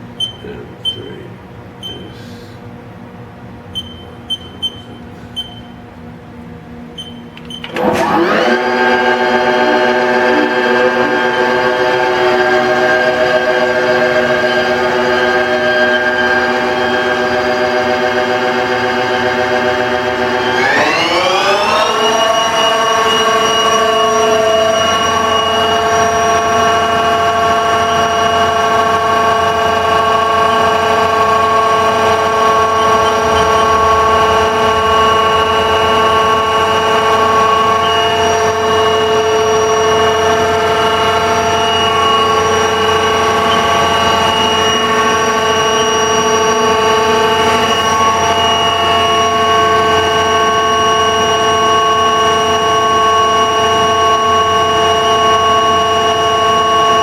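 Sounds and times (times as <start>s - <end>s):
lathe machine whine: 6.4s - 57.0s.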